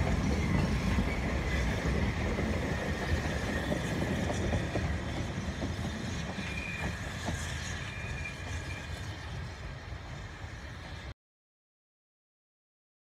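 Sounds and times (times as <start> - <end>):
steam train rumbling: 0.0 - 11.1.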